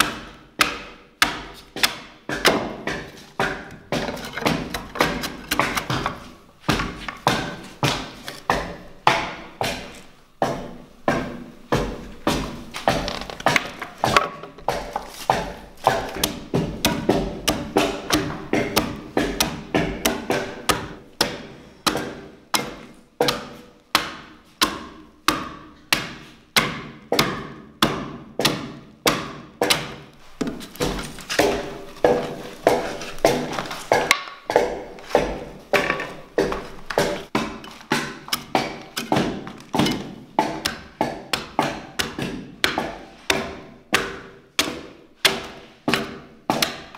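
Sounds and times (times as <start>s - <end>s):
axe chopping into wood: 0.0s - 46.9s.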